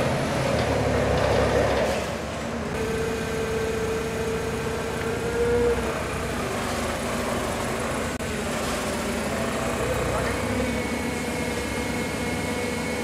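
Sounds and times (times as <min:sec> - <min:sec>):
forklift engine idling: 0:00.0 - 0:13.0.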